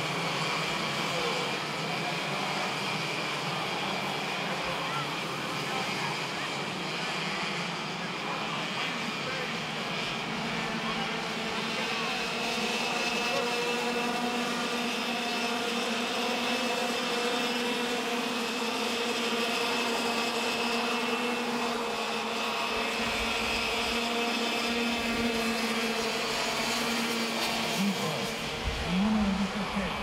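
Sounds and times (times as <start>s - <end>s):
go-kart engines buzzing: 0.0s - 30.0s.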